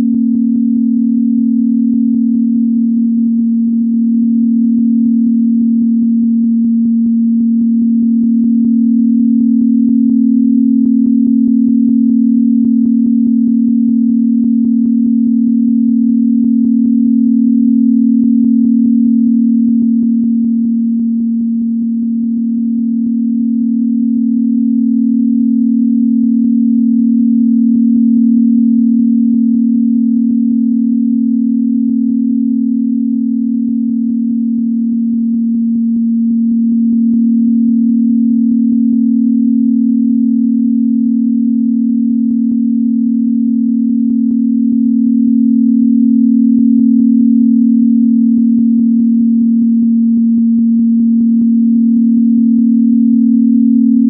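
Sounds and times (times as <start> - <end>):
low sine-wave tone: 0.0 - 54.0.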